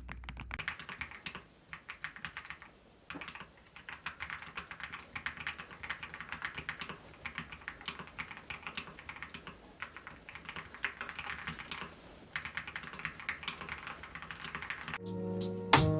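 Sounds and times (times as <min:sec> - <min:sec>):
mechanical keyboard typing: 0:00.6 - 0:15.0.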